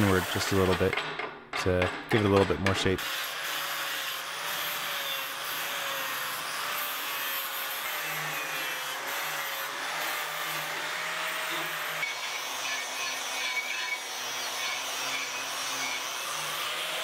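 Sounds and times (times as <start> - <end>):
angle grinder grinding steel: 0.0 - 0.9, 2.9 - 17.0.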